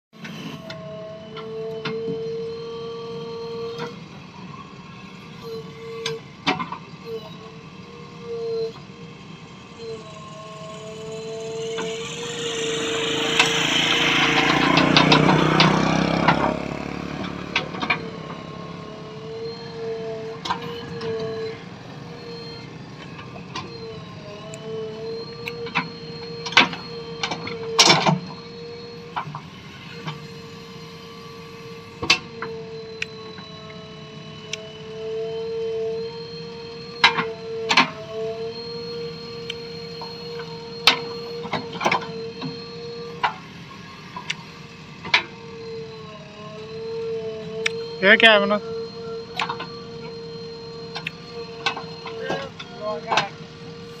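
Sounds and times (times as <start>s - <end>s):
diesel engine running: 0.2s - 54.0s
hydraulic whine: 0.2s - 54.0s.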